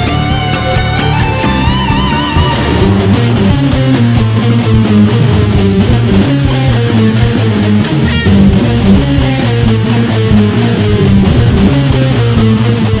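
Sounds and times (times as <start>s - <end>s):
electric guitar notes: 0.0s - 13.0s
guitar squeal: 0.0s - 13.0s.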